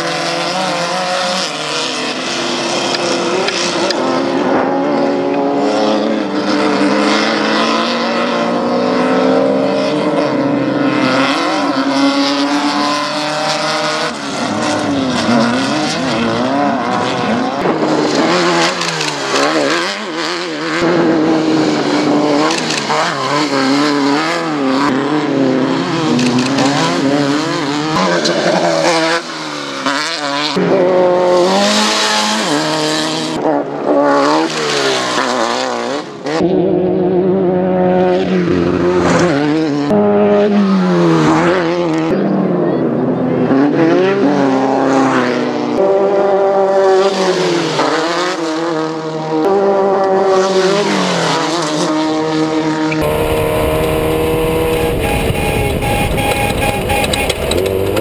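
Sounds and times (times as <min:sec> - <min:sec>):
buggy engines revving: 0:00.0 - 0:58.0.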